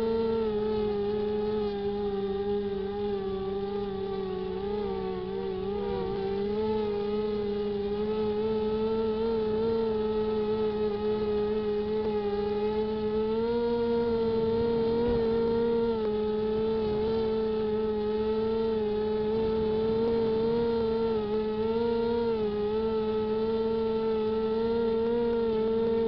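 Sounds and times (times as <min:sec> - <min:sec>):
drone propellers buzzing whine: 0:00.0 - 0:26.0.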